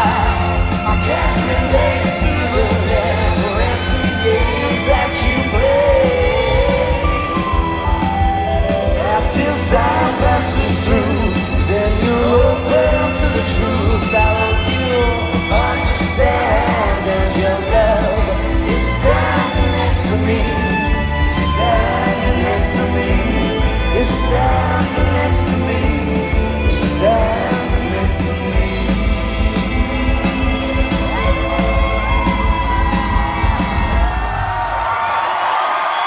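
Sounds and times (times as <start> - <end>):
person singing: 0.0 - 34.2
live rock band playing: 0.0 - 35.9.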